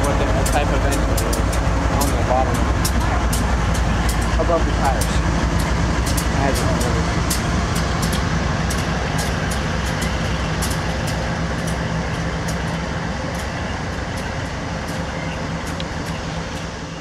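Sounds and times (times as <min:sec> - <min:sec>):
locomotive engine drone: 0:00.0 - 0:17.0
train rumble: 0:00.0 - 0:17.0
wheels clicking over rails: 0:00.0 - 0:17.0.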